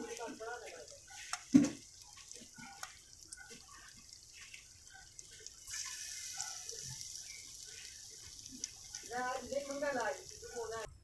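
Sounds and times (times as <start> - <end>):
bread sizzling in oil: 0.0 - 11.0
oil crackling and popping: 0.0 - 11.0.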